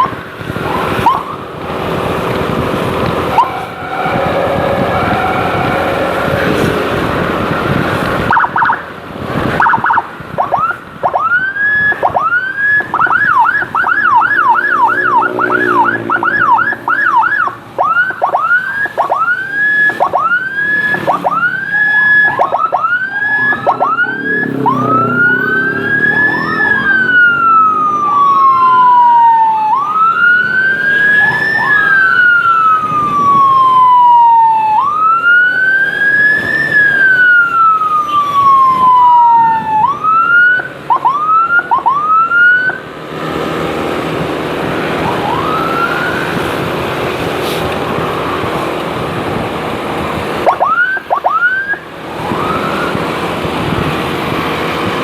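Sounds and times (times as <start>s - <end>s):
electronic emergency siren: 0.0s - 42.9s, 44.7s - 47.3s, 50.1s - 54.8s.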